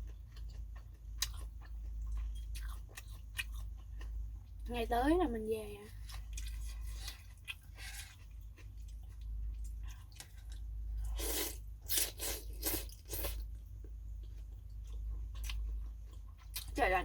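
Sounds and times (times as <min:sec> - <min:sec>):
person chewing: 0:00.0 - 0:04.2, 0:06.0 - 0:16.8.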